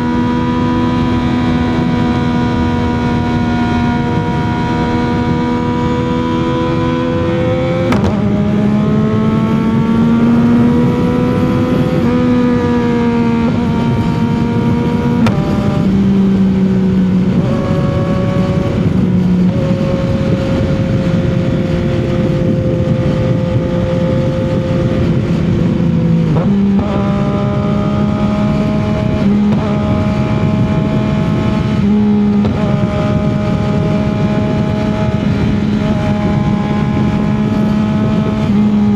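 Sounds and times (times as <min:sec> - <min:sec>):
motorcycle engine cruising: 0:00.0 - 0:38.9
road noise rush: 0:00.0 - 0:38.9.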